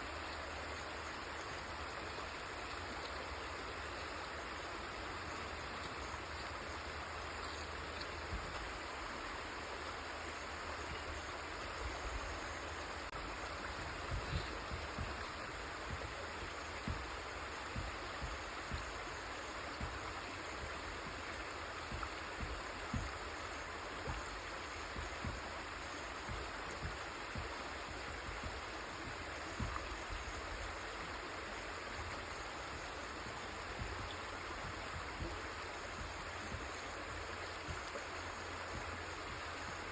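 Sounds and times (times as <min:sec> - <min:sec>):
river water rushing: 0:00.0 - 0:39.9
soft low thumps: 0:05.4 - 0:39.9.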